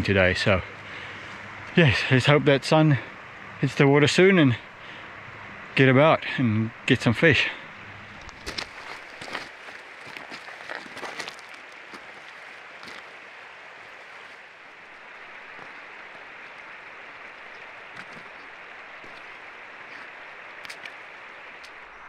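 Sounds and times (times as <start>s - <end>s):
river rushing over gravel: 0.1s - 22.0s.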